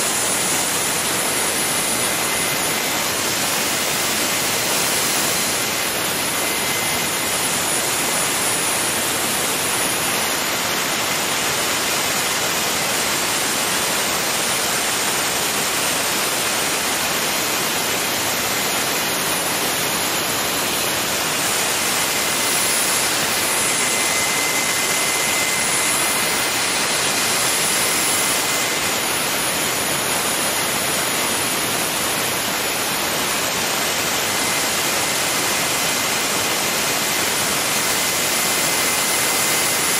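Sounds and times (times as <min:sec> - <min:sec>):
faint high whine: 0:00.0 - 0:39.9
gas turbine running: 0:00.0 - 0:39.9.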